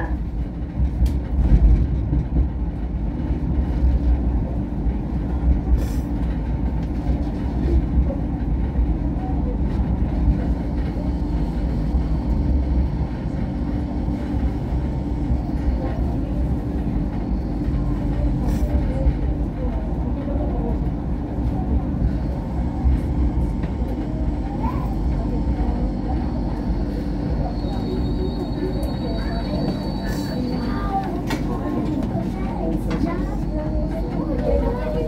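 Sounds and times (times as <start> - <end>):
train wheels and motors rumbling: 0.0 - 35.0.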